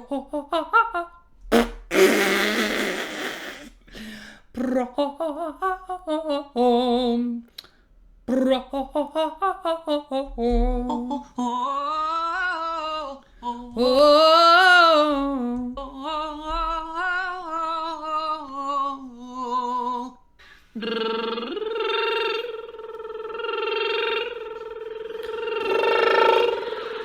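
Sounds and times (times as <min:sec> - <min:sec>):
person singing vocal warm-up: 0:00.0 - 0:07.6, 0:08.3 - 0:27.0.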